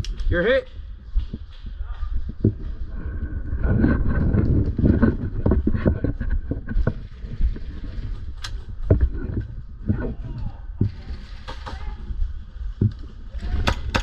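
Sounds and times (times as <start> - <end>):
low rumble on microphone: 0.0 - 13.7.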